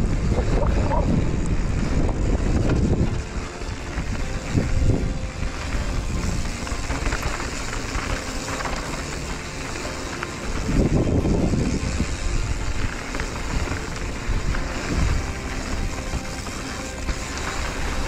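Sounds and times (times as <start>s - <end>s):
tyres rolling over dirt trail: 0.0s - 18.0s
wind buffeting microphone: 0.0s - 18.0s.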